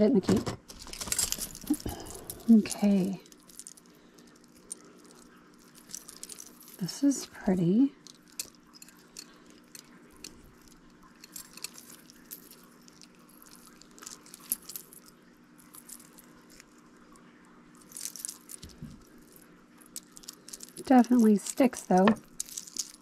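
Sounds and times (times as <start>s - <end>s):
faint steady hum: 0.0s - 23.0s
jewelry clicking and clinking: 0.6s - 17.0s, 17.7s - 23.0s.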